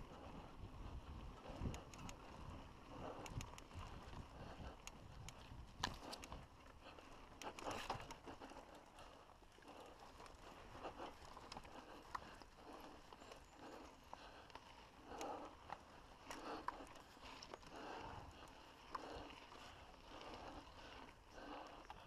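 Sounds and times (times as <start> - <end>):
mountain bike rattling on dirt trail: 0.0 - 22.0.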